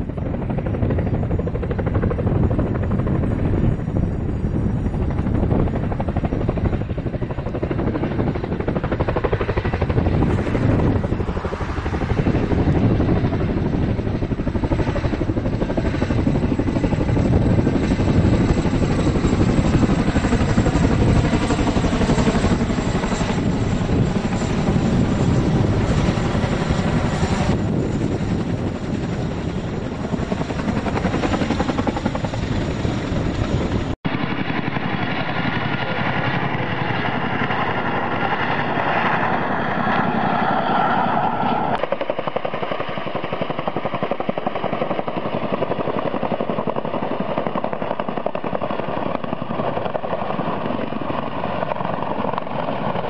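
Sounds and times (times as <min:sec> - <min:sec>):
helicopter rotors thrumming: 0:00.0 - 0:53.0.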